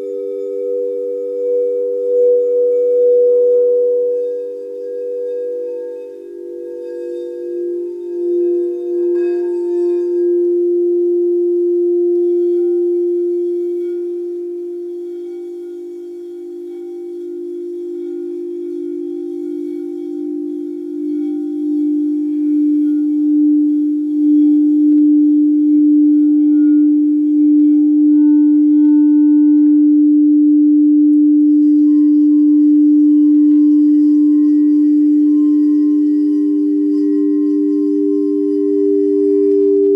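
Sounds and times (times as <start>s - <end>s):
singing bowl tones: 0.0s - 39.9s.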